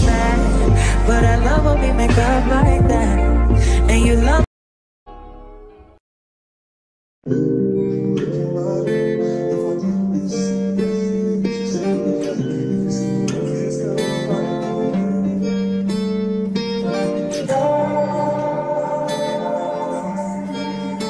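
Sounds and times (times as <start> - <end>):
acoustic guitar music: 0.0 - 3.6, 7.3 - 21.0.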